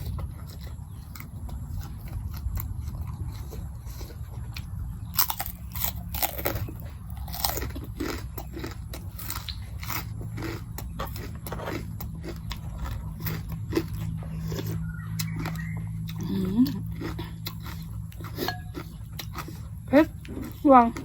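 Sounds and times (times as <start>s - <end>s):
chewing: 0.0s - 21.0s.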